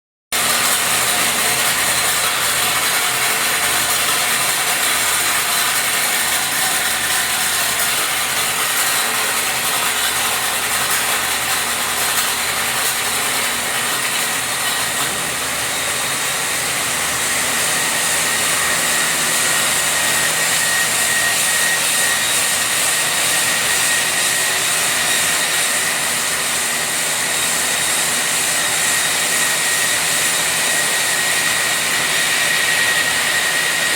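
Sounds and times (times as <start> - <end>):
wire saw cutting concrete: 0.3 - 33.9.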